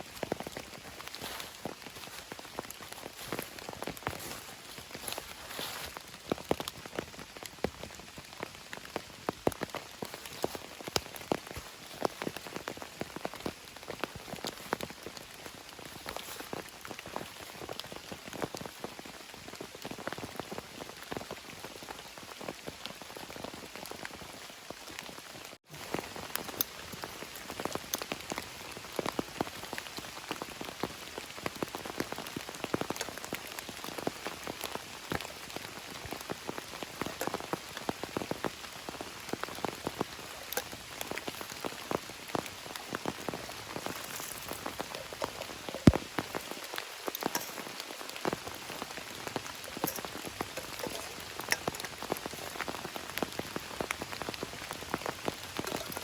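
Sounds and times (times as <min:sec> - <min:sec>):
raindrops striking close by: 0:00.0 - 0:56.0
steady rain: 0:00.0 - 0:56.0.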